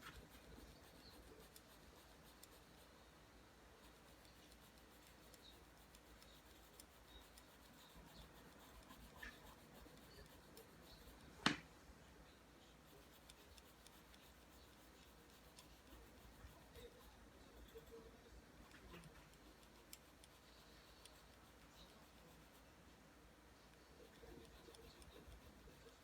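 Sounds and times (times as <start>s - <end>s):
pencil scratching on paper: 0.0s - 3.0s, 3.7s - 11.6s, 12.5s - 22.9s, 23.6s - 26.0s.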